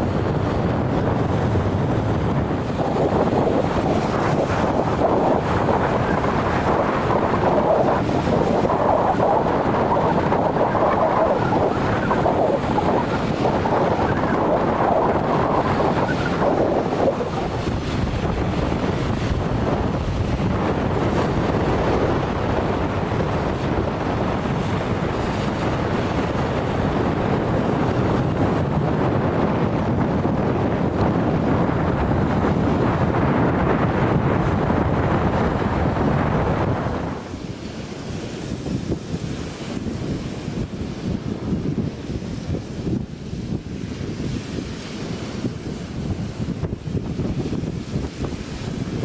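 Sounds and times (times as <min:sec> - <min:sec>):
surf breaking on shore: 0:00.0 - 0:49.0
wind buffeting microphone: 0:00.0 - 0:49.0.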